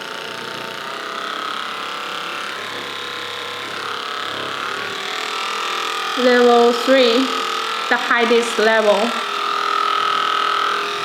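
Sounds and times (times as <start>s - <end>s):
massage gun buzzing: 0.0s - 11.0s.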